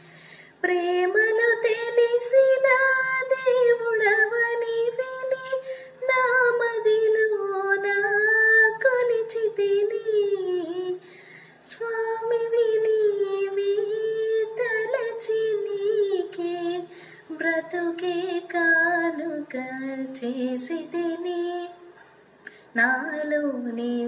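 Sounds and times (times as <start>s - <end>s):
woman singing: 0.6s - 22.0s, 22.7s - 24.0s.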